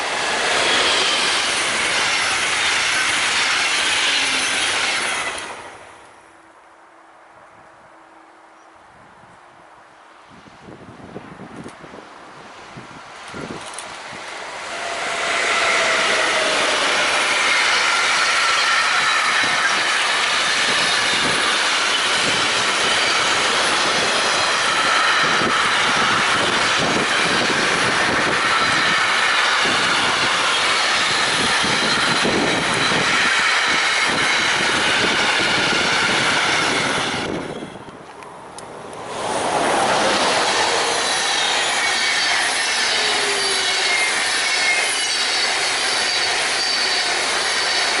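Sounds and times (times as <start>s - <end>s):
train wheels rolling on rail: 0.0s - 6.4s, 10.2s - 48.0s.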